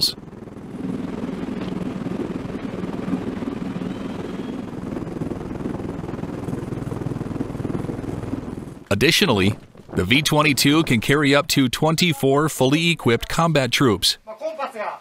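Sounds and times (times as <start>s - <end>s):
helicopter rotor chopping: 0.0s - 14.2s.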